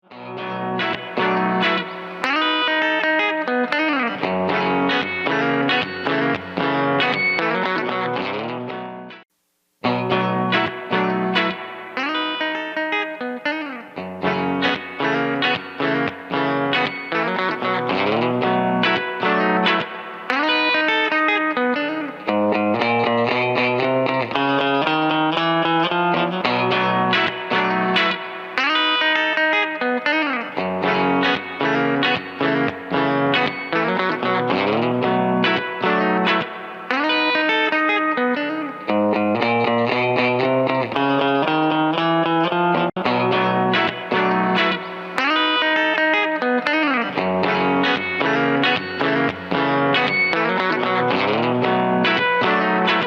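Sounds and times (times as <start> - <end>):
electric guitar notes and chords: 0.0 - 9.2, 9.8 - 53.0.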